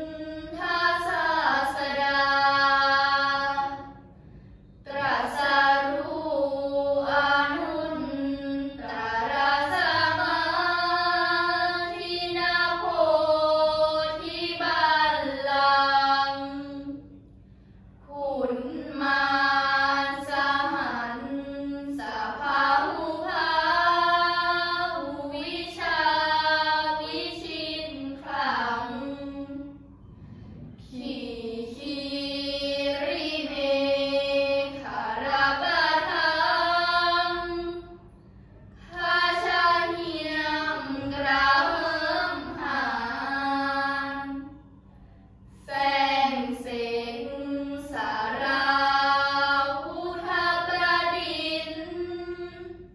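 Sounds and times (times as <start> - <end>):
girls chanting in unison: 0.0 - 4.1, 4.8 - 17.1, 18.0 - 29.8, 30.6 - 38.0, 38.8 - 44.6, 45.5 - 52.9.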